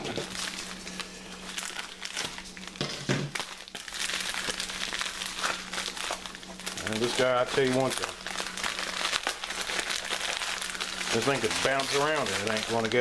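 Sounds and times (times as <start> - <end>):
plastic and paper packaging crinkling: 0.0 - 13.0.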